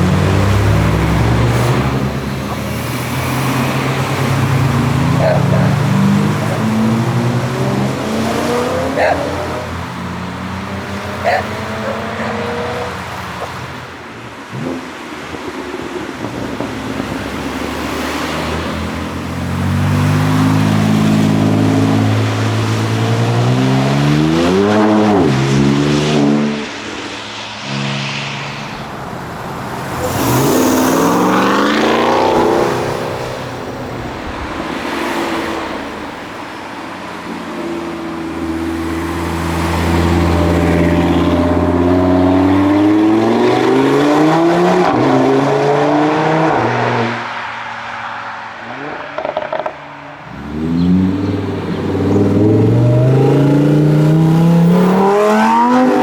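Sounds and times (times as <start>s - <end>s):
sports car engines revving: 0.0s - 56.0s.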